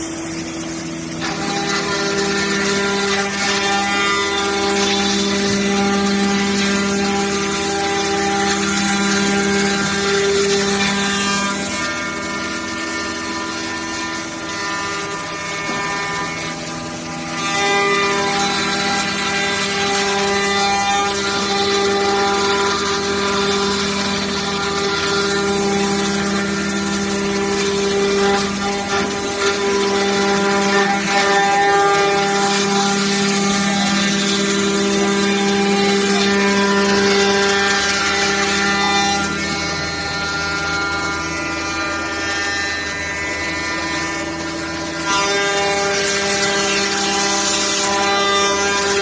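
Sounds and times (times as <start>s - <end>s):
router spindle motors whining: 0.0s - 49.0s.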